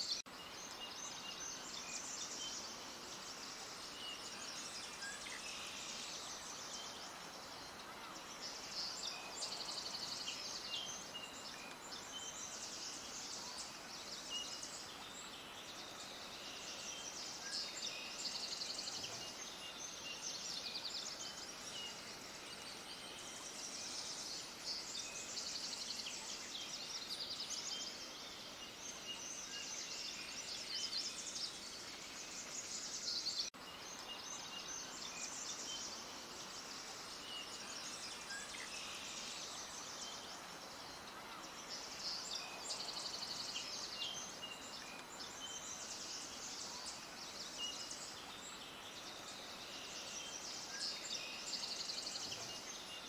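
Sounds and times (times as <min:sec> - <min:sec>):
faint steady hiss: 0:00.0 - 0:53.0
small birds chirping: 0:00.0 - 0:53.0.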